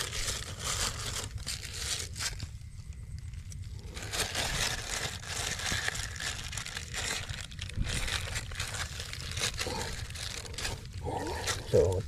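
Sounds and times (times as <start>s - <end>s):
plastic sheet crinkling: 0.0s - 2.5s, 3.3s - 12.0s
small crackles: 0.0s - 12.0s.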